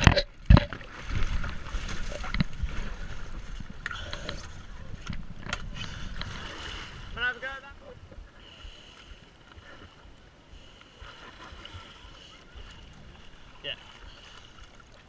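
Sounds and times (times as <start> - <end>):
water lapping: 0.0 - 15.0
water splashing around a kayak: 0.0 - 15.0.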